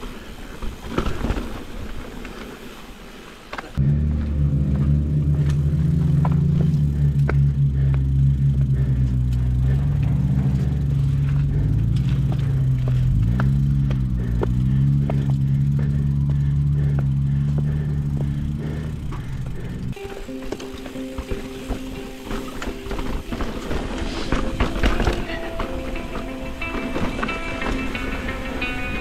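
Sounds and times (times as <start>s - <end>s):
vehicle engine running: 3.8s - 29.0s.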